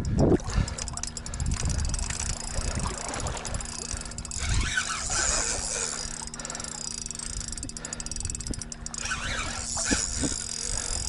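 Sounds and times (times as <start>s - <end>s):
fishing reel cranking: 0.0s - 11.0s
reel drag ticking: 0.0s - 11.0s.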